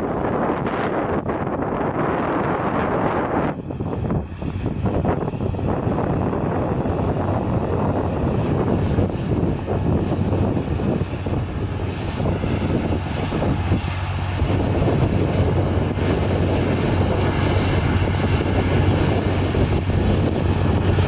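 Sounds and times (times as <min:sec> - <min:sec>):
rockets launching roar: 0:00.0 - 0:21.0
steady low hum: 0:00.0 - 0:21.0.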